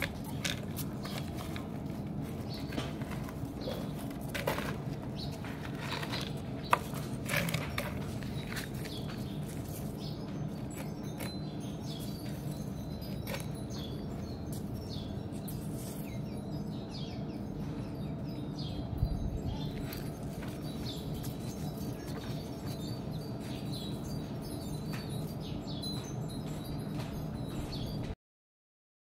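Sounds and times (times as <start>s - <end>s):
small birds chirping: 0.0s - 28.1s
low background hum: 0.0s - 28.2s.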